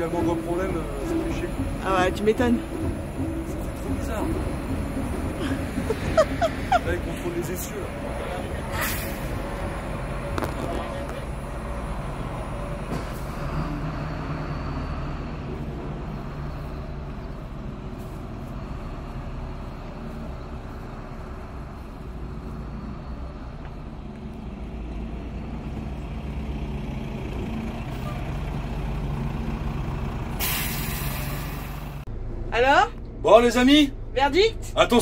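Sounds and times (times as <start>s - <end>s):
diesel bus engine running: 0.0s - 35.0s.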